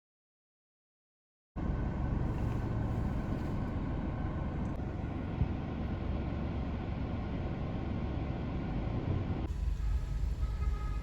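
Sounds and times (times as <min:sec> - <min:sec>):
car engine running: 0:01.6 - 0:11.0
road noise: 0:01.6 - 0:11.0.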